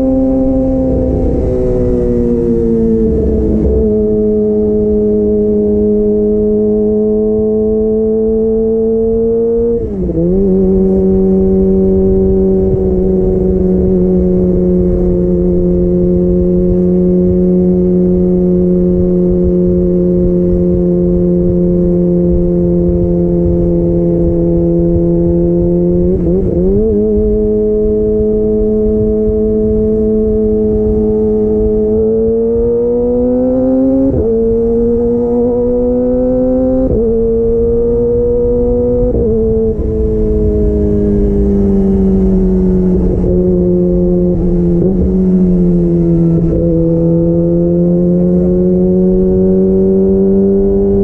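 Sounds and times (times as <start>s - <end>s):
motorcycle engine: 0.0s - 51.0s.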